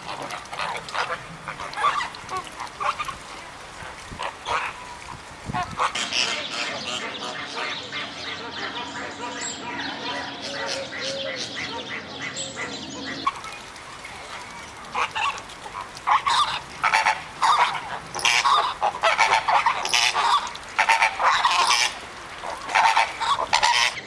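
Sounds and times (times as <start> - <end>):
flamingos honking: 0.0 - 3.3, 4.1 - 24.0.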